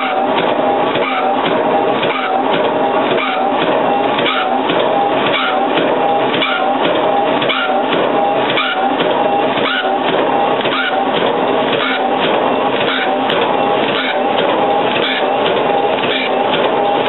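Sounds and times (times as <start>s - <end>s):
metal shaper whine and clatter: 0.0s - 17.0s.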